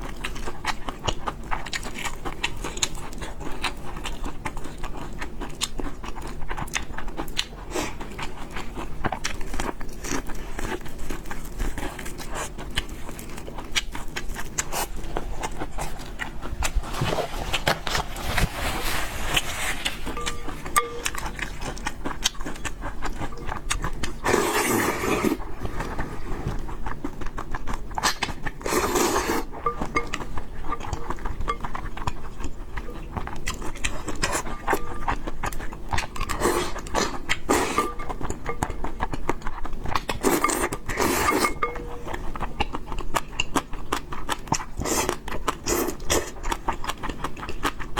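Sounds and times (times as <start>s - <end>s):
person chewing noodles: 0.0s - 18.2s, 19.3s - 47.9s.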